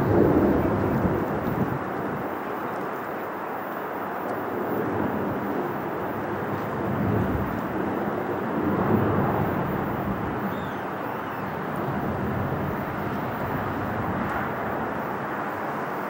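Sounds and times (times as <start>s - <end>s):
jet engine noise: 0.0s - 16.0s.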